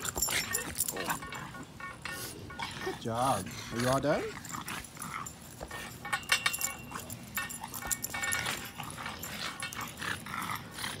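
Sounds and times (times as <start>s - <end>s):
dog noises: 0.0s - 11.0s
faint metallic jingle: 0.0s - 11.0s.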